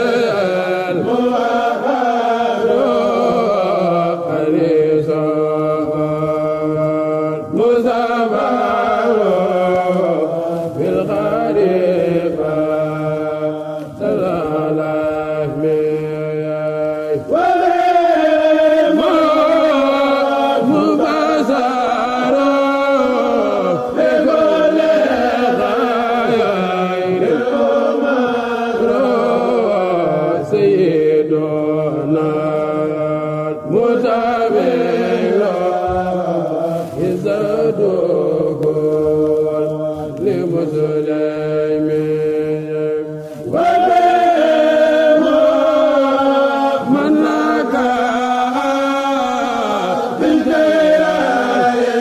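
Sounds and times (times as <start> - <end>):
solo voice chanting: 0.0 - 52.0.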